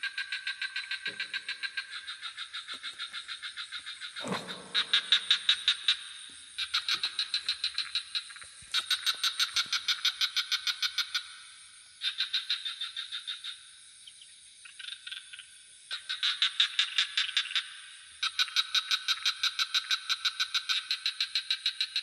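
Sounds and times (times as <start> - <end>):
frogs calling in pulses: 0.0 - 22.0
night insects trilling: 0.0 - 22.0.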